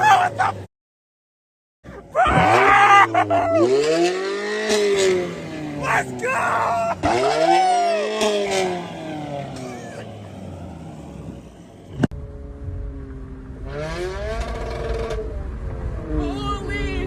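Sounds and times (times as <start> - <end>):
car engine revving: 2.2 - 17.0.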